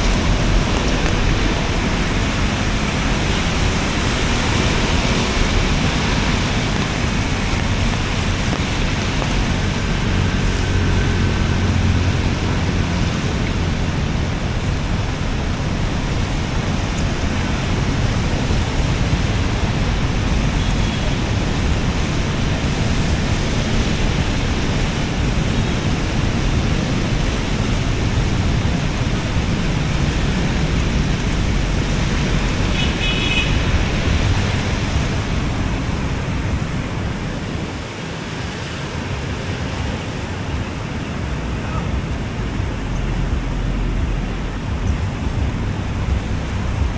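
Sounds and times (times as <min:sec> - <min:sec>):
road traffic passing: 0:00.0 - 0:46.9.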